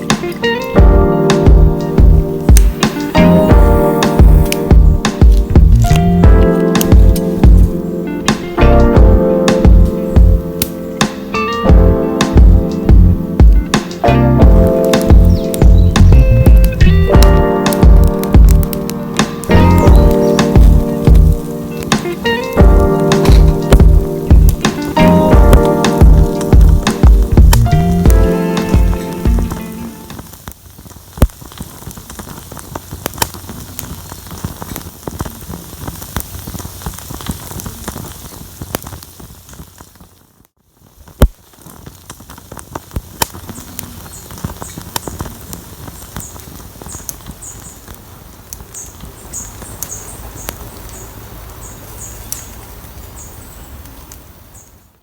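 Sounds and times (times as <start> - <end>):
campfire crackling and popping: 0.0 - 54.7.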